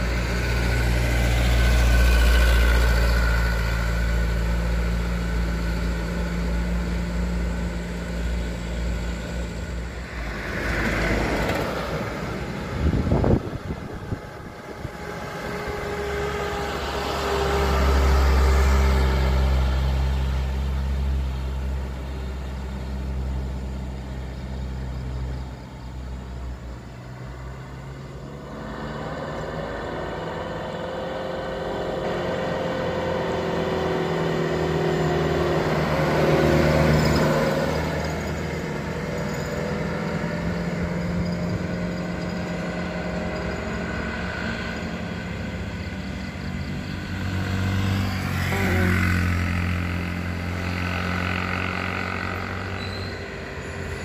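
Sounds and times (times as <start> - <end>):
truck diesel engines pulling hard: 0.0 - 54.0.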